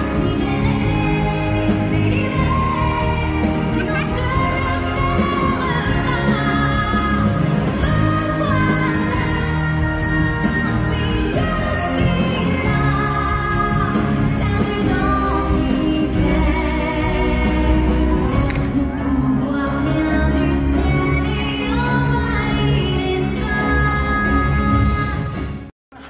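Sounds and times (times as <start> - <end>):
woman singing with backing music: 0.0 - 25.6.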